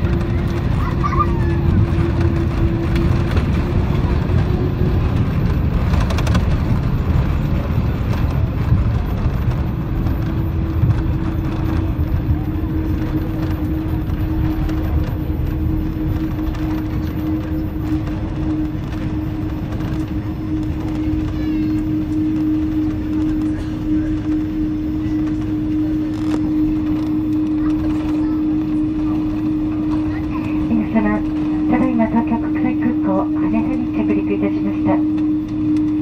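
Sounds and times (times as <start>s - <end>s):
low rumble of engines and wheels: 0.0s - 36.0s
steady hum: 0.0s - 36.0s.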